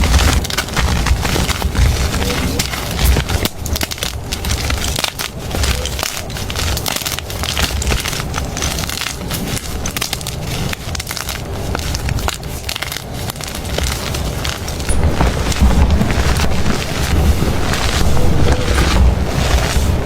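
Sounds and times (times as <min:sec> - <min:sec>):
chalk crunching by hand: 0:00.0 - 0:20.0
low rumble: 0:00.0 - 0:20.0.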